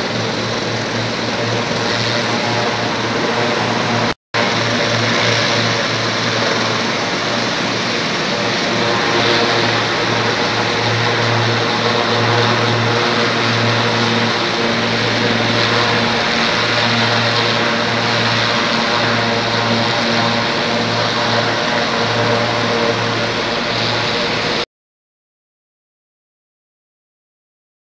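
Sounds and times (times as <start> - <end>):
helicopter engines and rotors droning: 0.0 - 24.6.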